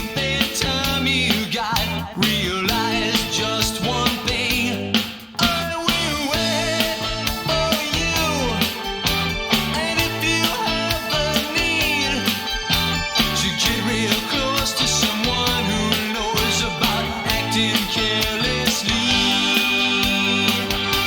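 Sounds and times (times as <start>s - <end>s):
drum beat: 0.0s - 21.0s
electric guitars: 0.0s - 21.0s
person singing: 0.0s - 21.0s.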